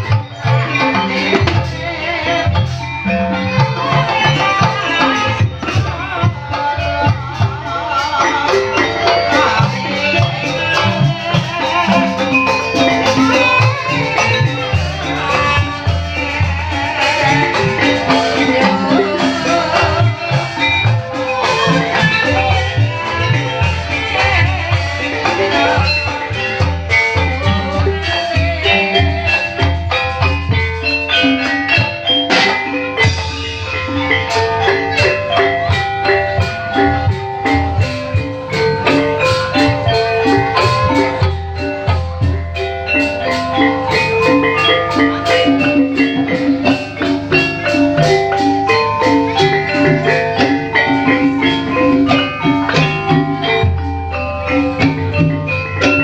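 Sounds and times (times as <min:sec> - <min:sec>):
fast mallet-struck gamelan notes: 0:00.0 - 0:56.0.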